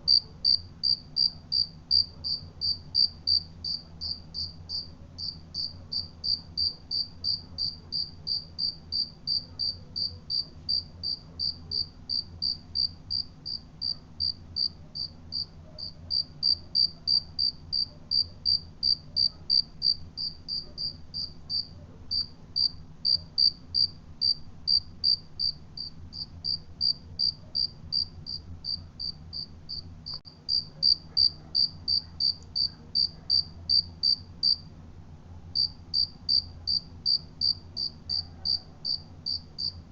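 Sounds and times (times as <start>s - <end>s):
faint low hum: 0.0s - 39.9s
cricket chirping: 0.1s - 34.6s, 35.6s - 39.8s.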